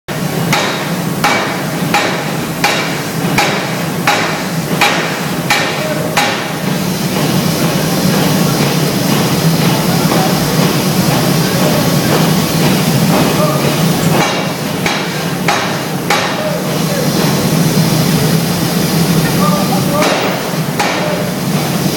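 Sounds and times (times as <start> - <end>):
low machinery hum: 0.1 - 21.9
steam hammer heavy blows: 0.1 - 21.9.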